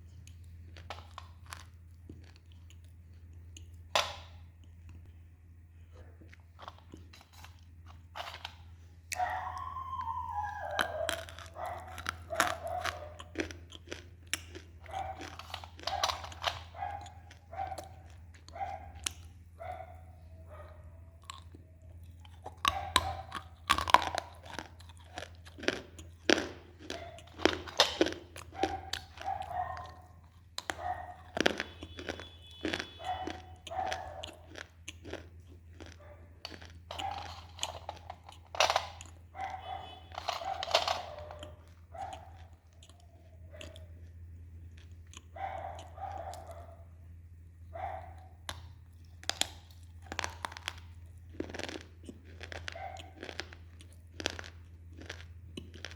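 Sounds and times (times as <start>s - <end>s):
crunching and chewing clay: 0.0s - 55.9s
low electrical hum: 0.0s - 55.9s.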